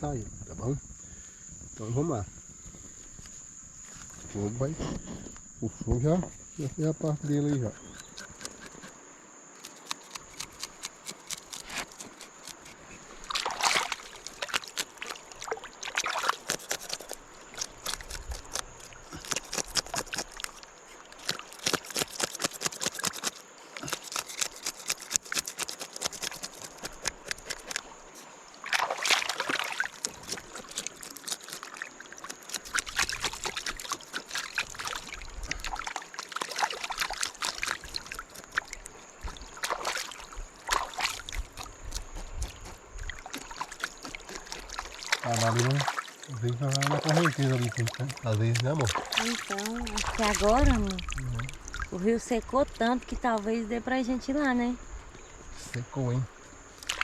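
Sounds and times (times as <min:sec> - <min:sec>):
high insect buzz: 0:00.0 - 0:57.0
water splashing and trickling: 0:09.6 - 0:57.0.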